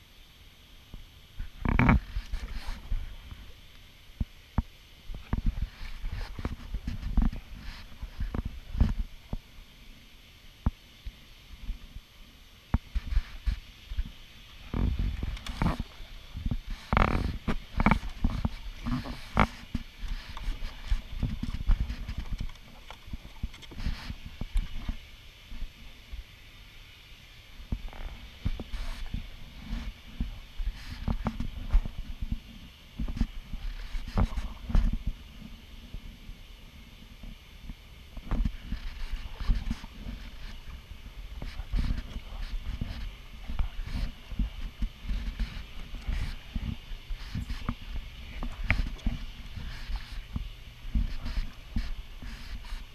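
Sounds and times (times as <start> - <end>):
paddle pulling through water: 1.4 - 10.1, 12.6 - 26.3, 27.5 - 52.9.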